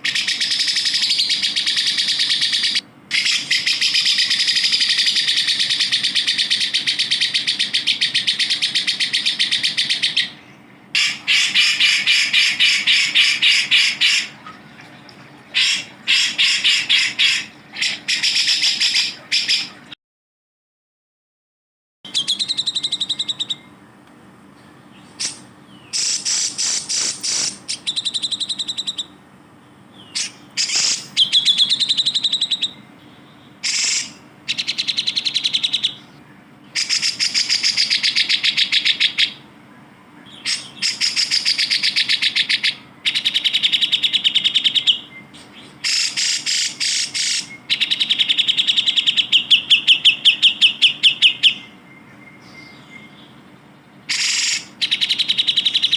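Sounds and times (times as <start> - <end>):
bird chattering trills: 0.0 - 14.6, 15.5 - 19.8, 22.1 - 23.8, 24.8 - 39.5, 40.2 - 55.9.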